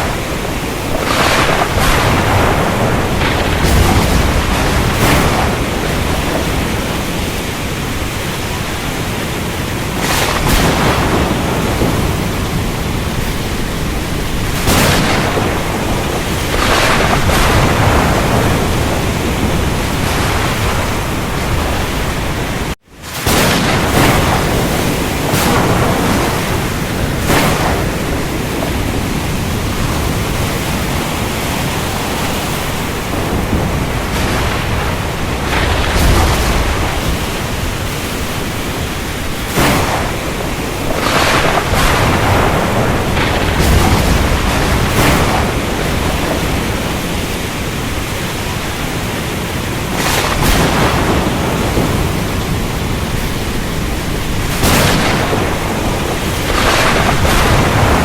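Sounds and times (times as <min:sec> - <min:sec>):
low rumble of thunder: 0:00.0 - 0:49.0, 0:49.6 - 0:58.0
heavy rain: 0:00.0 - 0:58.0
surf: 0:00.0 - 0:58.0
waves surging: 0:00.0 - 0:58.0.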